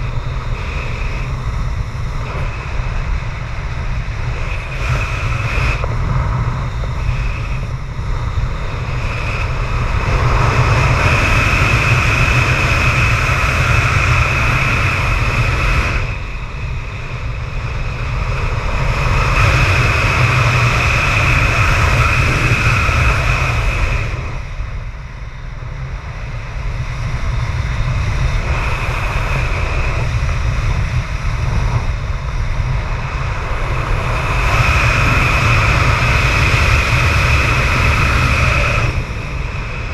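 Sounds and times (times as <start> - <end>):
high wind whistle: 0.0 - 39.9
strong wind buffeting microphone: 0.0 - 39.9.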